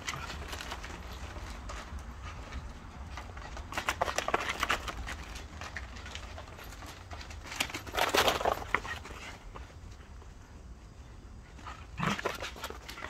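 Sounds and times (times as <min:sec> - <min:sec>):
dogs play-fighting: 0:00.0 - 0:10.4, 0:11.4 - 0:13.0
paws scrabbling on turf: 0:00.0 - 0:10.5.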